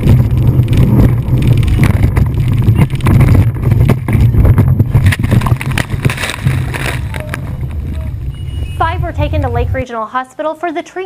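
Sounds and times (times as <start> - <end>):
hull slamming on waves: 0.0 - 9.8
water noise: 0.0 - 9.8
powerboat engine drone: 0.1 - 9.8.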